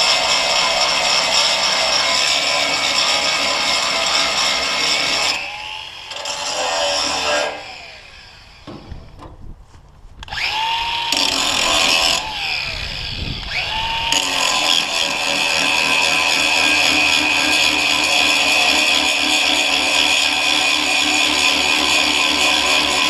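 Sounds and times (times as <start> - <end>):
power tool motor whining: 0.0 - 9.2, 10.2 - 23.0.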